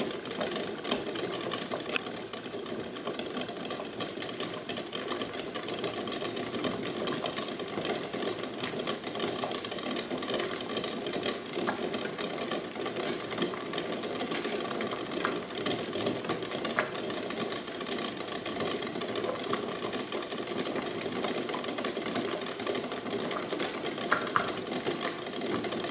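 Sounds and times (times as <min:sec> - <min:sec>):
eggs rattling in a steel pot: 0:00.0 - 0:25.9
water bubbling at a boil: 0:00.0 - 0:25.9.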